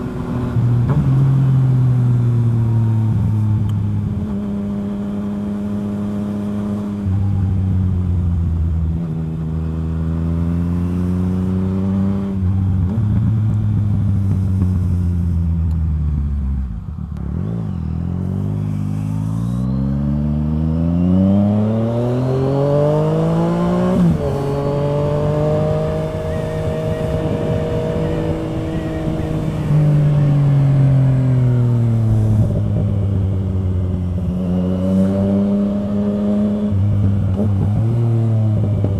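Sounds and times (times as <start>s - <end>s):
motorcycle engine on the road: 0.0s - 38.9s.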